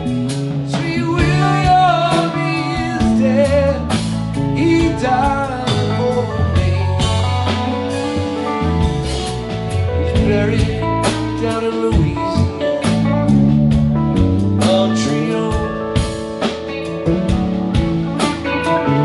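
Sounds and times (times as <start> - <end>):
live blues-rock band: 0.0 - 19.0.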